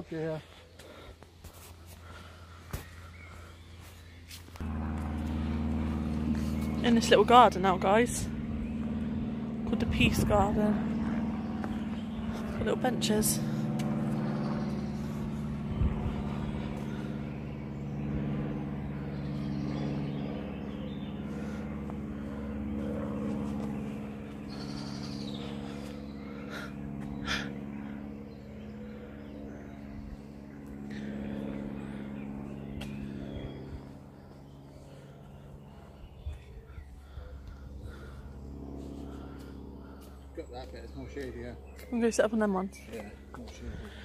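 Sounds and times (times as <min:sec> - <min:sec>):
engine humming: 0:00.0 - 0:44.0.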